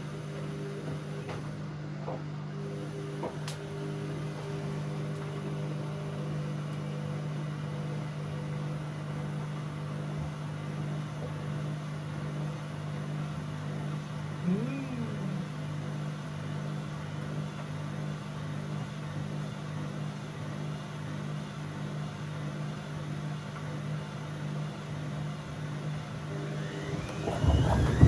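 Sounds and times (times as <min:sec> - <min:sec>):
washing machine humming: 0:02.9 - 0:28.0.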